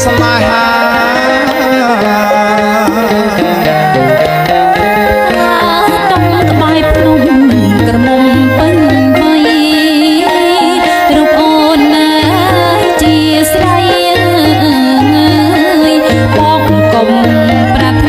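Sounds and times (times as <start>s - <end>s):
rhythmic drum percussion: 0.0s - 18.0s
song with gliding melody: 0.0s - 18.0s.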